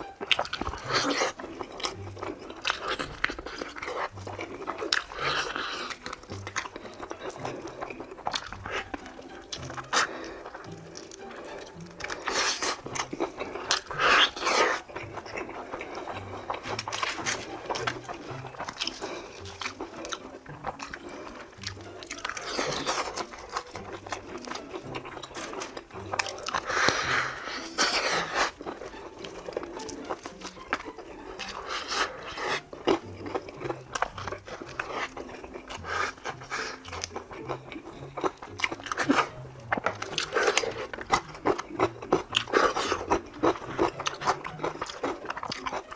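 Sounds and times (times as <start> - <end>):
crunchy chewing of fried chicken: 0.0 - 45.9.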